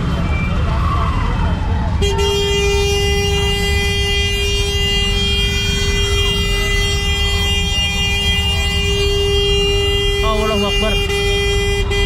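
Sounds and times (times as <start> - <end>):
street traffic rumble: 0.0 - 12.0
vehicle horn steady tone: 2.0 - 12.0.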